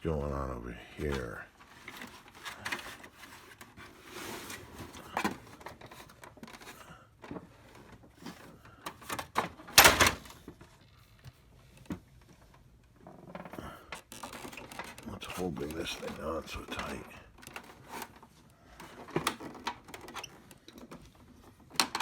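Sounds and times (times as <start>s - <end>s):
plastic clatter: 1.6s - 22.0s.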